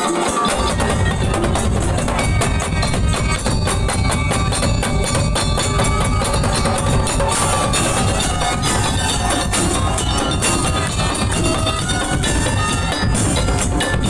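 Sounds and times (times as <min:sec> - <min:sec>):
fast drums and percussion: 0:00.0 - 0:14.0
held melodic tones: 0:00.0 - 0:14.0.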